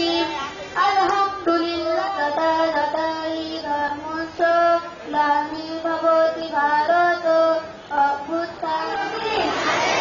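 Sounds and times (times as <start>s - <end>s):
children singing into a microphone: 0.0s - 10.0s.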